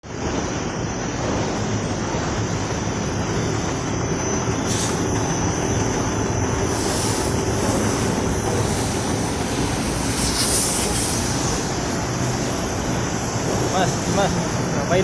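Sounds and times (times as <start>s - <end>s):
printing press rumble: 0.1s - 15.0s
thin high whine: 0.1s - 15.0s.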